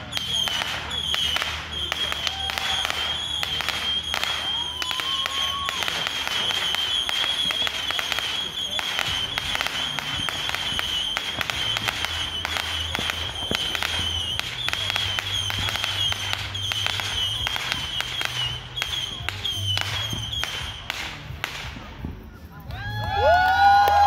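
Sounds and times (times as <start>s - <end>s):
wavering high firework whistle: 0.0s - 21.3s
fireworks crackling pops: 0.0s - 24.0s.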